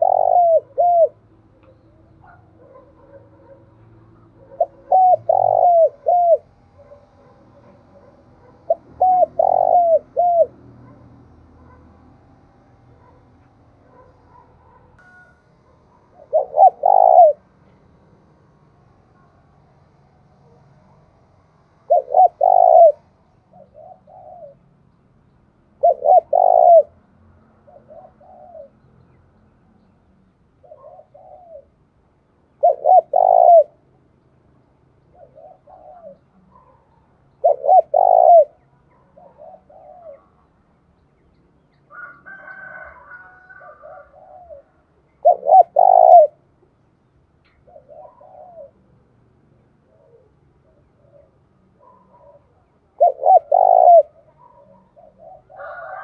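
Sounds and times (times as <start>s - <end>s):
dove cooing: 0.0s - 24.8s, 25.7s - 28.9s, 30.6s - 31.9s, 32.5s - 34.0s, 35.1s - 40.7s, 41.9s - 46.7s, 47.5s - 56.0s.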